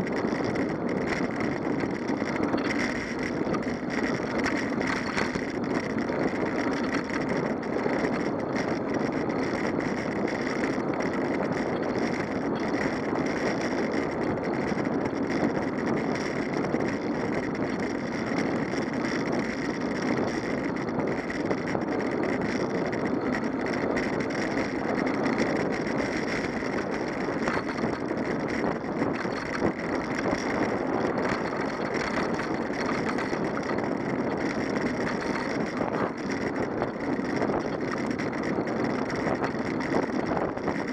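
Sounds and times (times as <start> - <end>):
rolling tyre noise: 0.0 - 40.9
rushing wind: 0.0 - 40.9.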